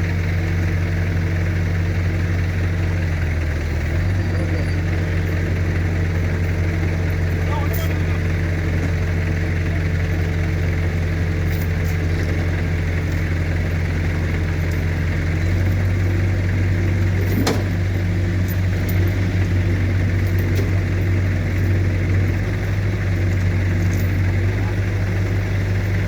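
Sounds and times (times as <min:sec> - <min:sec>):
heavy vehicle engine running: 0:00.0 - 0:26.0.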